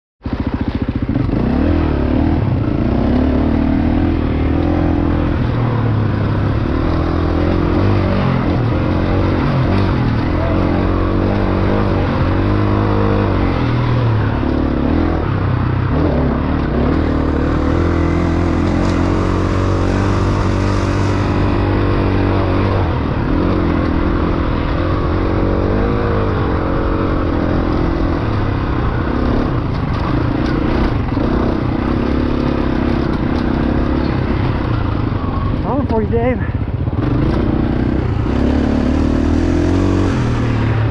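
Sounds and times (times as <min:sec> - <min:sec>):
dirt bike engine revving: 0:00.2 - 0:40.9.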